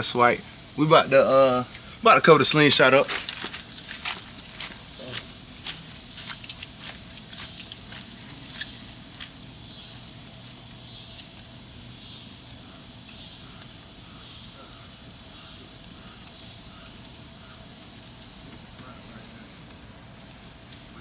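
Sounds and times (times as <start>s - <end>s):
shrill insect chorus: 0.0s - 21.0s.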